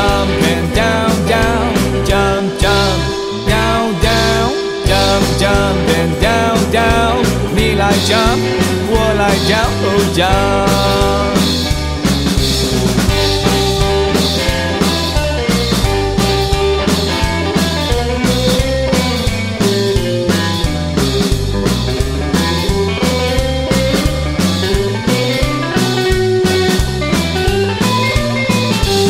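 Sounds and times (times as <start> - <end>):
bass line: 0.0 - 29.0
drum kit beat: 0.0 - 29.0
rock and roll guitar: 0.0 - 29.0.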